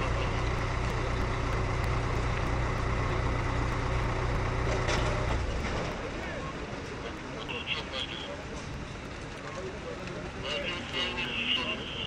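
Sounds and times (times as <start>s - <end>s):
large motor rumbling: 0.0s - 12.0s.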